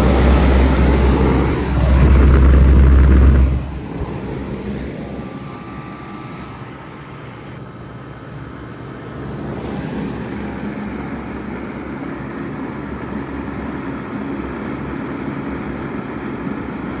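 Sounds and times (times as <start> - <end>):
heat pump humming: 0.0 - 17.0.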